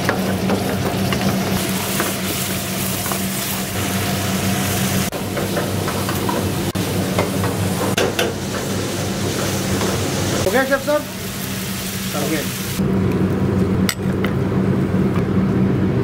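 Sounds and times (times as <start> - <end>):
food sizzling in frying pan: 0.0 - 12.8.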